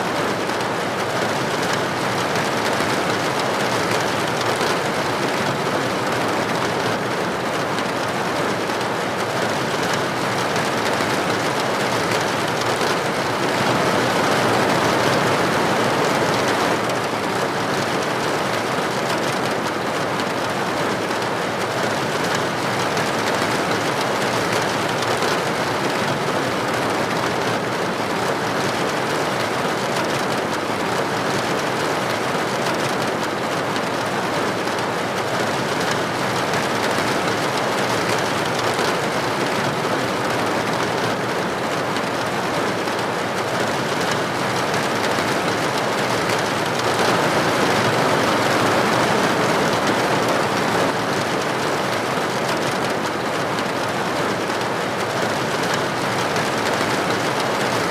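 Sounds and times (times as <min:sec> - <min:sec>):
steady dense rainfall: 0:00.0 - 0:57.9.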